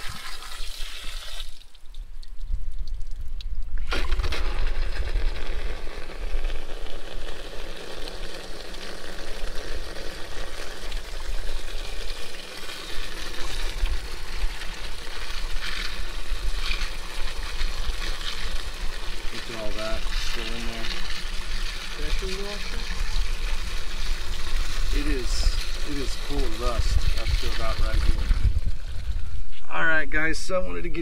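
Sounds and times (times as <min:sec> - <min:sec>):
hose water rushing and pouring: 0:00.0 - 0:29.6.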